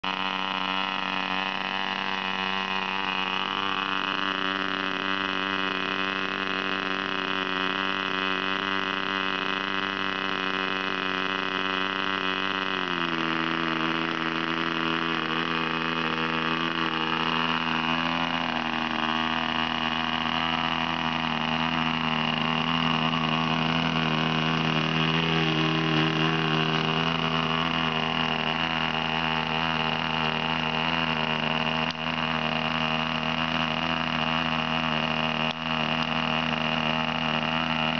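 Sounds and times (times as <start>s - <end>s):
model aeroplane engine running: 0.0s - 37.9s.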